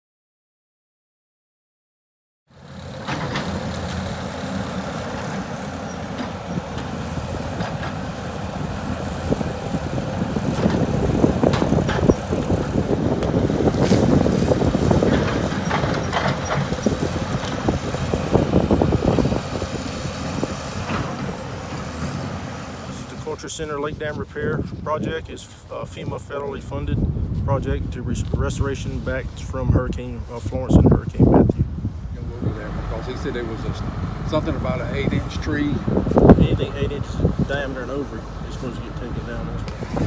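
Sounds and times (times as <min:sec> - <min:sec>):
diesel construction machinery running: 0:02.5 - 0:40.0.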